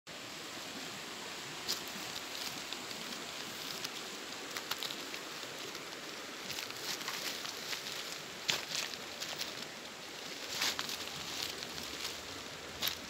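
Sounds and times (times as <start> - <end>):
creek rushing: 0.1 - 13.0
pebbles clicking underfoot: 1.7 - 13.0.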